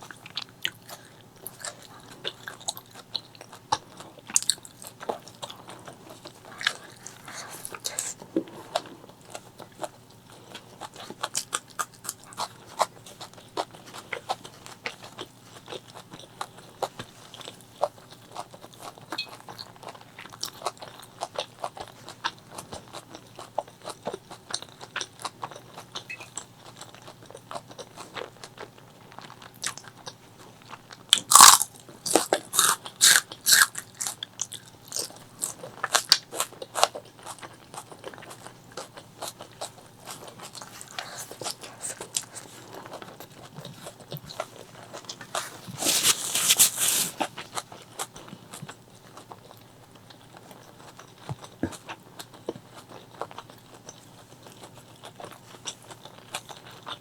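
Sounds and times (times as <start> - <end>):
wet chewing and crunching: 0.0 - 57.0.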